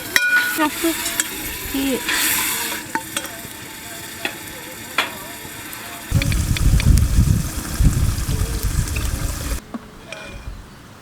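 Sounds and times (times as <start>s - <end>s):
liver sizzling in a pan: 0.0s - 9.6s.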